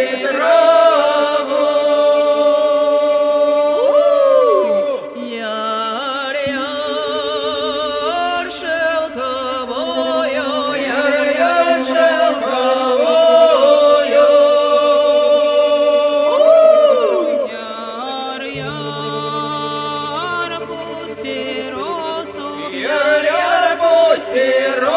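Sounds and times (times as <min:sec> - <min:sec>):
steady drone: 0:00.0 - 0:17.3, 0:18.4 - 0:24.9
voices singing folk song: 0:00.0 - 0:24.9.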